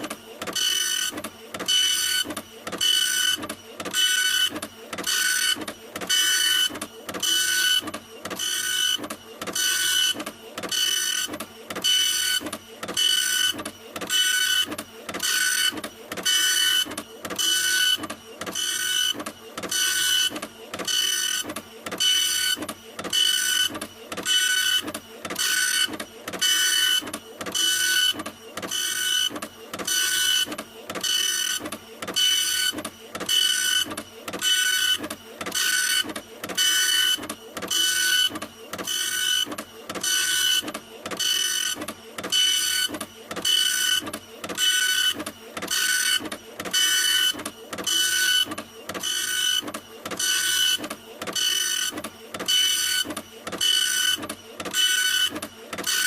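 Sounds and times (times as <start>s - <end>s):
printer mechanism strokes: 0.0s - 56.0s.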